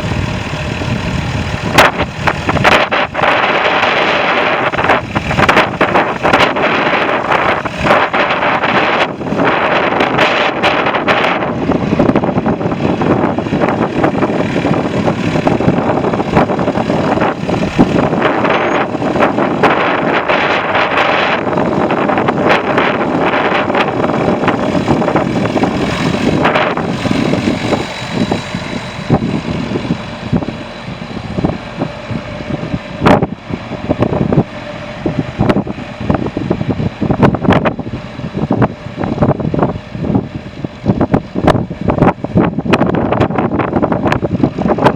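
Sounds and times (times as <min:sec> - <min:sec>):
engine running: 0:00.0 - 0:44.9
wind buffeting microphone: 0:00.0 - 0:44.9.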